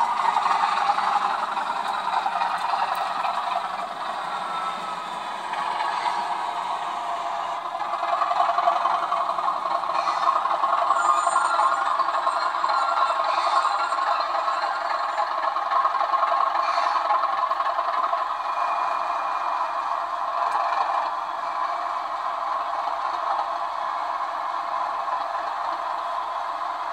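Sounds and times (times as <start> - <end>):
model train motor running: 0.0 - 26.9
wheels rattling over rails: 0.0 - 26.9.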